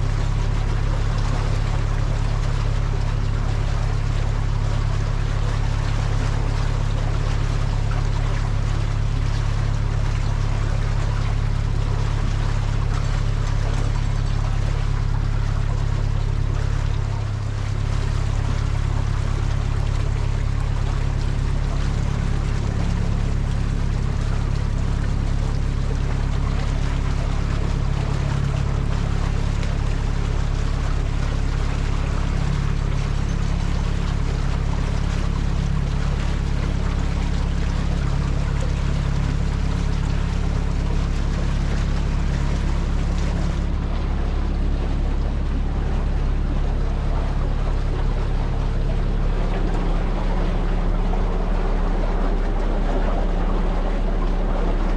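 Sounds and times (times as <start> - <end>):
water rushing: 0.0 - 54.9.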